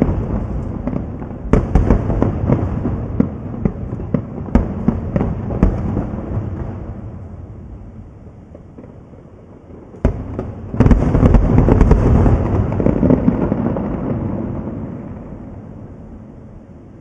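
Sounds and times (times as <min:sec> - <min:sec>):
fireworks crackling: 0:00.0 - 0:16.4
fireworks exploding: 0:00.0 - 0:16.9.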